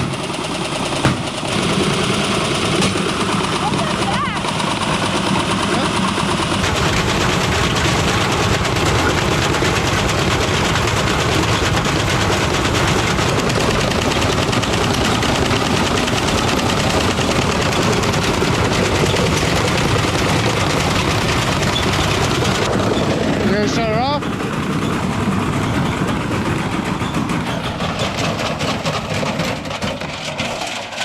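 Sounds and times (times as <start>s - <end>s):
washing machine spinning: 0.0s - 31.0s
junk rattling against drum: 0.9s - 1.8s, 6.0s - 23.3s, 24.3s - 31.0s.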